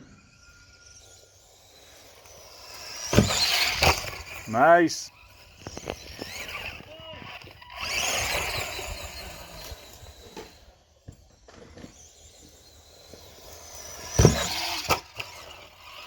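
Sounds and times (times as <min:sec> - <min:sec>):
toy truck motor and tyres: 0:00.0 - 0:16.0.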